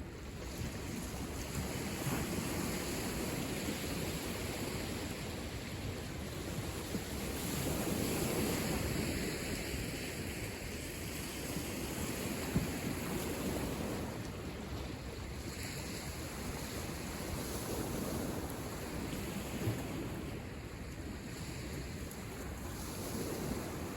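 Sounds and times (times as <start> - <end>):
waves washing on shore: 0.0 - 23.9
wind noise on microphone: 0.0 - 23.9.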